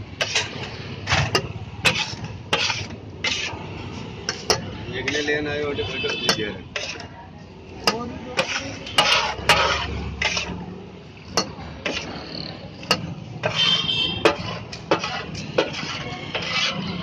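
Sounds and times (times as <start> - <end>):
steel dish scraping metal griddle: 0.0 - 17.0.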